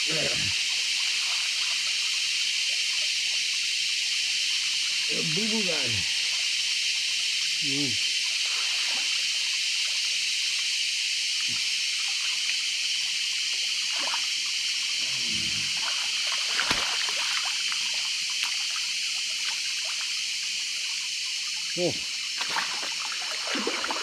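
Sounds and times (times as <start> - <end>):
shallow river water trickling: 0.0 - 24.0.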